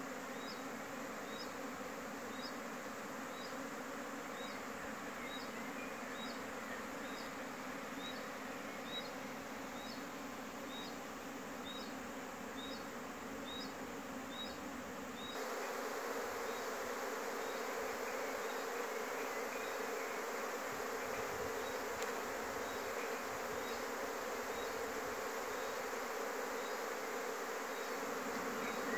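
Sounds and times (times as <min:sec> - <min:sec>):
bees buzzing: 0:00.0 - 0:28.9.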